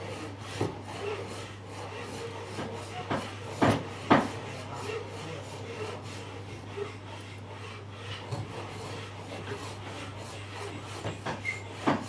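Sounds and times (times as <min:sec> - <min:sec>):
frame saw cutting wood: 0:00.0 - 0:12.0.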